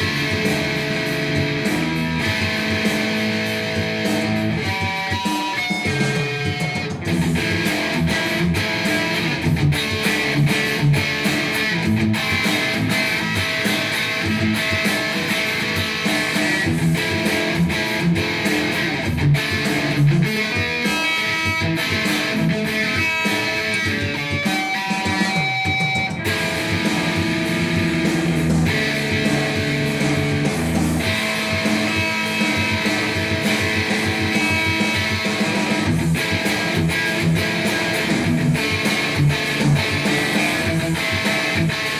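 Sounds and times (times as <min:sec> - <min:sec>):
electric guitar lead: 0:00.0 - 0:41.9.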